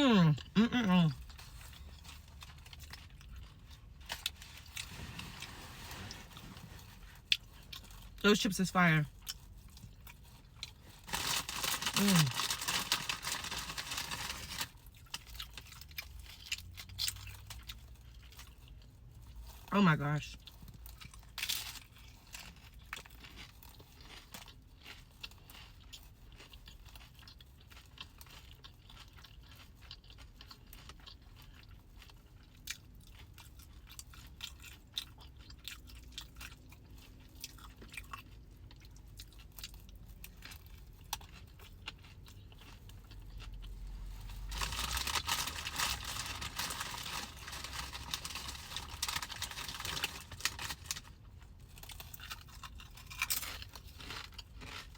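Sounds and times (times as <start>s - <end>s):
person chewing and crunching food: 0.0s - 54.9s.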